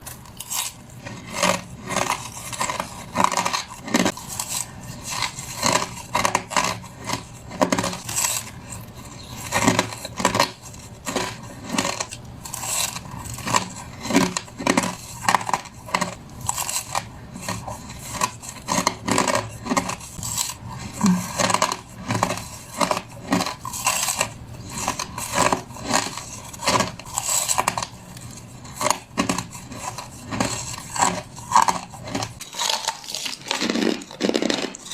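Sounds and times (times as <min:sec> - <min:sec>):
person crunching ice: 0:00.0 - 0:34.9.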